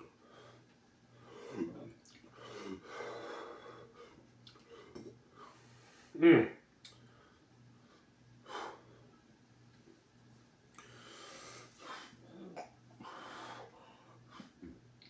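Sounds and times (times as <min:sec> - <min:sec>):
faint low hum: 0:00.0 - 0:15.0
man breathing heavily: 0:00.2 - 0:06.2, 0:07.1 - 0:09.2, 0:10.8 - 0:14.8.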